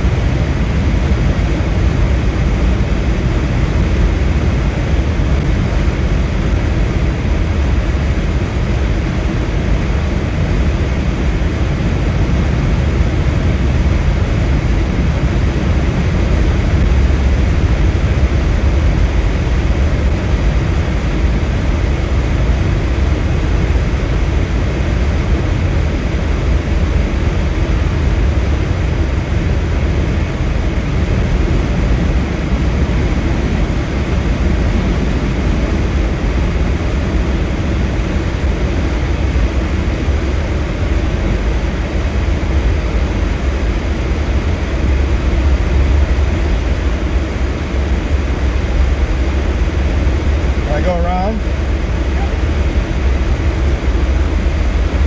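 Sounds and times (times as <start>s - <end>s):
vehicle cabin road and wind rumble: 0.0s - 55.0s.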